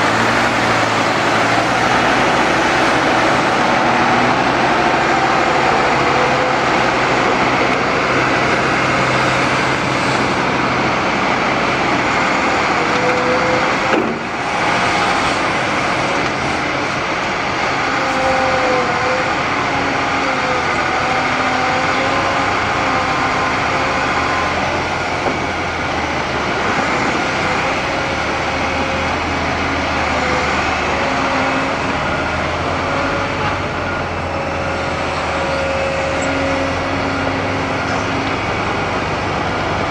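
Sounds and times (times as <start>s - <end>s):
excavator engine and hydraulics: 0.0s - 39.9s.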